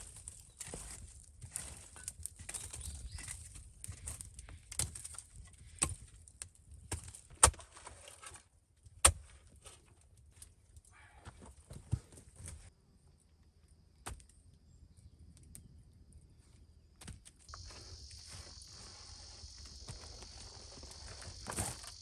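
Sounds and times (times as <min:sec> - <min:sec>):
scraping and crumbling soil: 0:00.0 - 0:12.8, 0:16.6 - 0:22.0.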